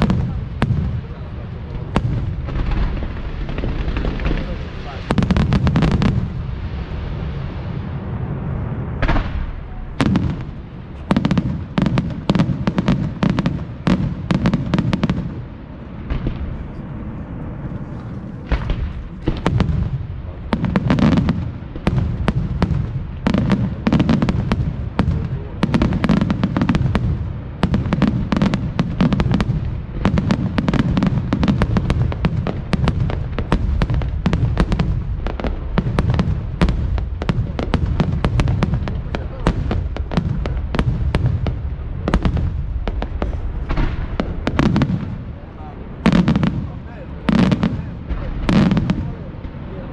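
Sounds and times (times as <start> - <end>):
continuous low rumble: 0.0 - 49.9
fireworks bangs: 0.0 - 49.9.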